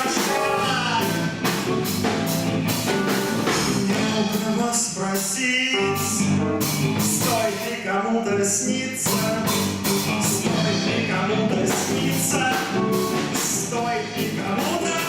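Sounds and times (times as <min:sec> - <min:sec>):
person singing: 0:00.0 - 0:02.1, 0:03.0 - 0:15.0
guitars: 0:00.0 - 0:05.0, 0:05.8 - 0:07.8, 0:08.9 - 0:15.0
drum kit beat: 0:00.0 - 0:07.8, 0:09.0 - 0:15.0.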